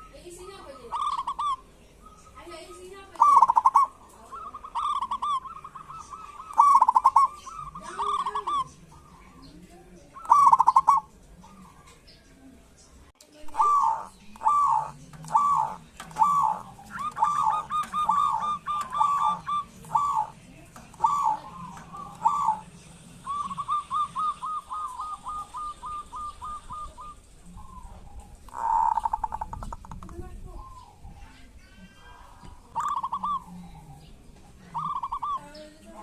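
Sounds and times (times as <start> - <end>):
doves cooing: 0.0 - 12.8, 13.5 - 36.0.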